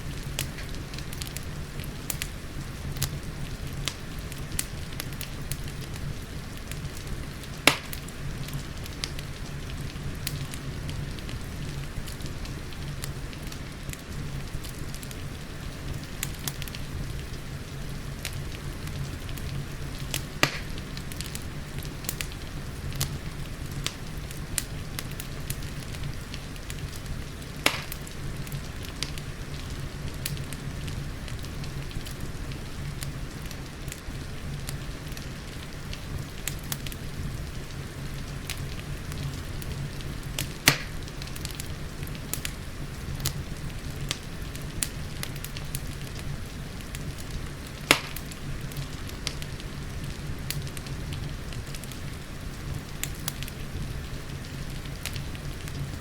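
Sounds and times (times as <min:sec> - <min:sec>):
loud fire pops: 0:00.0 - 0:56.0
steady rain: 0:00.0 - 0:56.0
wood fire crackling: 0:00.0 - 0:56.0.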